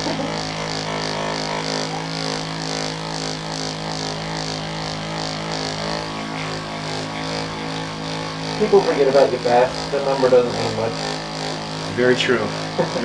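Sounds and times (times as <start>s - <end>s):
small electric machine humming: 0.0s - 13.0s.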